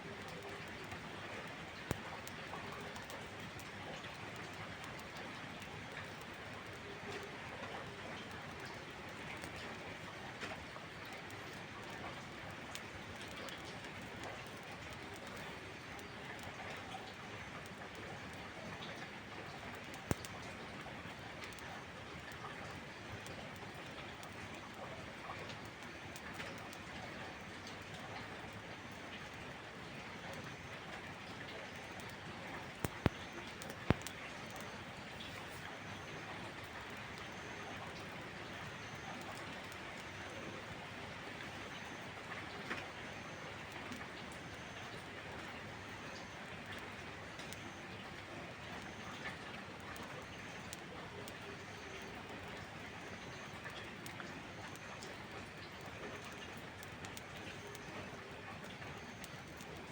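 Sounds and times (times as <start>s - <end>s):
steady rain: 0.0s - 59.9s
wood fire crackling: 0.1s - 59.9s.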